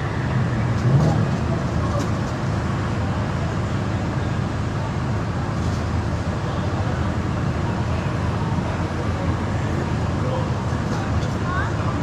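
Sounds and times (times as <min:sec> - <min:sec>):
car engine and tyre rumble: 0:00.0 - 0:12.0
surrounding traffic: 0:00.0 - 0:12.0.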